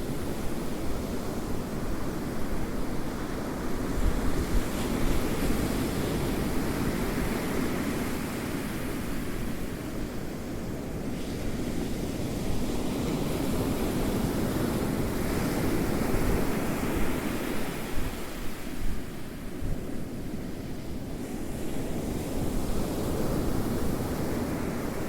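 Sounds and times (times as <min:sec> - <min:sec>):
ocean surf: 0:00.2 - 0:25.0.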